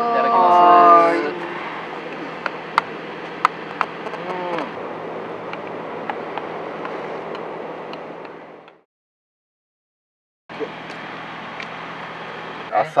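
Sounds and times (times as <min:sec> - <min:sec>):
idling engines and traffic: 0:00.0 - 0:08.8, 0:10.5 - 0:13.0.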